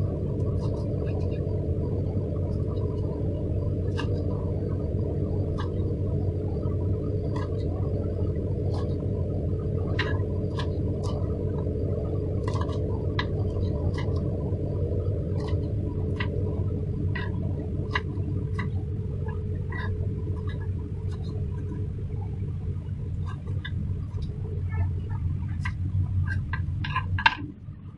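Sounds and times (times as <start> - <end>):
low hum: 0.0 - 27.9.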